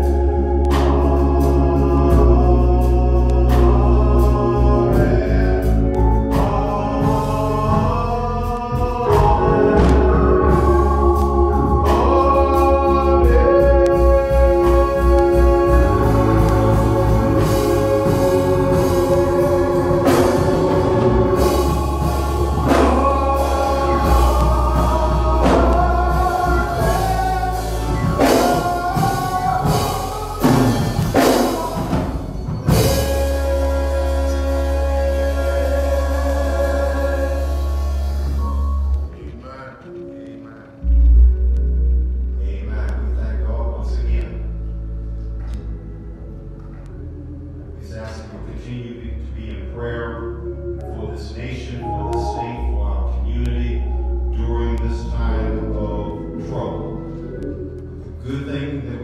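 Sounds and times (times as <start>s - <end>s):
man singing gospel song: 0.0s - 41.2s, 42.3s - 44.6s, 47.8s - 59.0s
church organ chords: 0.0s - 59.0s.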